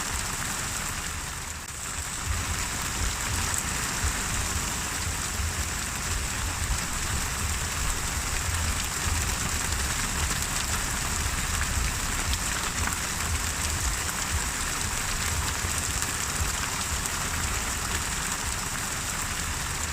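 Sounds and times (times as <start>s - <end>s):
rain falling: 0.0s - 19.9s
low rumble: 1.6s - 19.6s.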